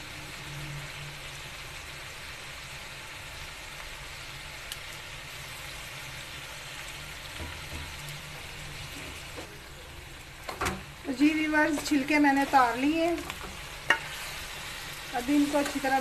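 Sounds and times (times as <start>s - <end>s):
meat and tomatoes sizzling in oil: 0.0s - 16.0s.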